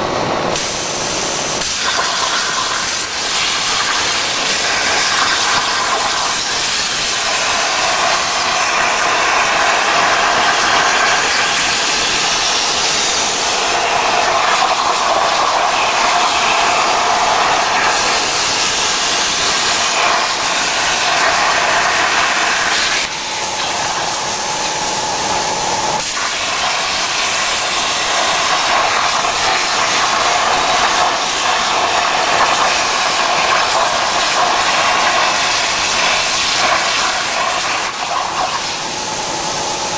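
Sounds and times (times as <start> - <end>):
plasma torch arc hissing: 0.5 - 39.9.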